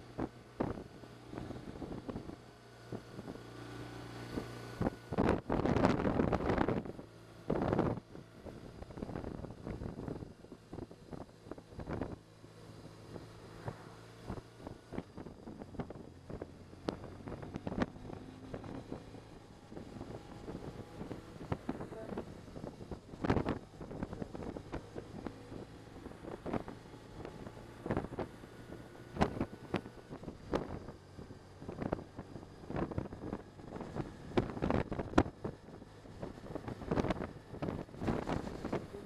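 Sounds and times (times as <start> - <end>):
motorcycle engine hum: 0.0 - 39.0
wind buffeting microphone: 4.2 - 39.0.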